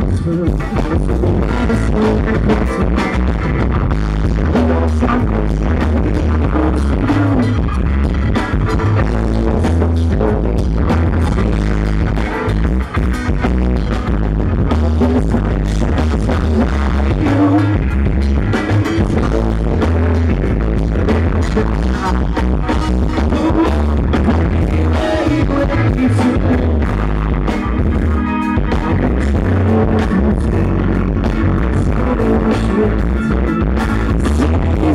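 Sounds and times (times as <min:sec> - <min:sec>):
man singing: 0:00.0 - 0:12.3, 0:14.6 - 0:27.6, 0:28.6 - 0:34.9
heavy pulsing bass line: 0:00.0 - 0:34.9
live rock band playing: 0:00.0 - 0:34.9.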